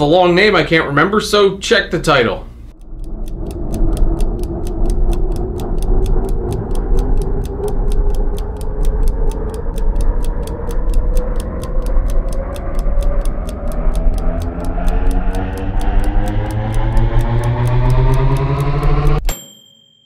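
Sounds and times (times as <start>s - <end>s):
fast clock-like ticking: 2.6s - 19.3s
low droning tone: 2.6s - 19.3s.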